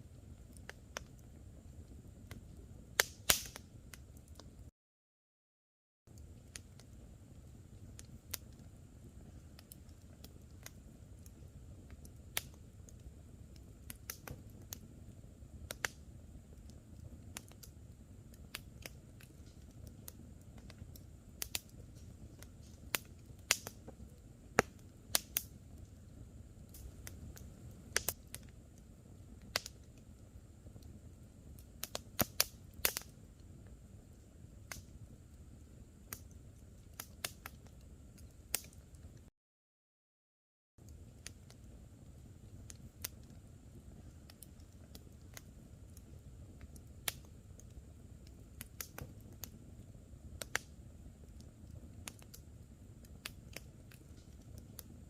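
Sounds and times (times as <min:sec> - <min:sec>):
campfire crackling: 0:00.0 - 0:04.7, 0:06.1 - 0:39.3, 0:40.8 - 0:55.0
fire popping and snapping: 0:00.0 - 0:04.7, 0:06.1 - 0:39.3, 0:40.8 - 0:55.0.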